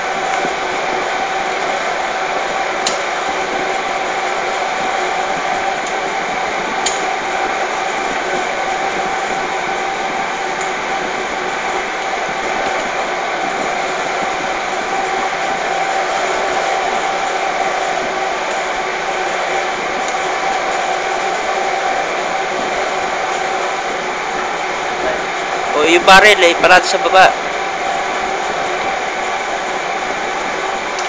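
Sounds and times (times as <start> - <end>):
air handling rushing hum: 0.0 - 31.0.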